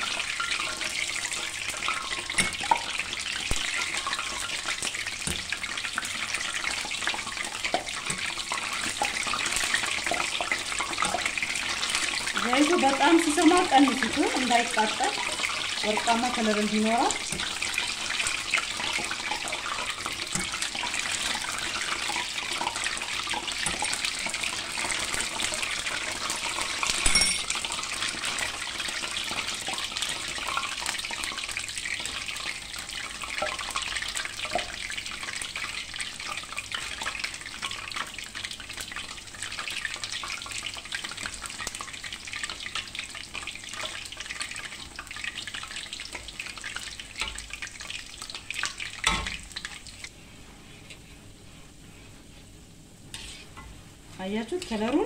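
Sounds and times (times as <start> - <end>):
dough sizzling in hot oil: 0.0 - 55.0.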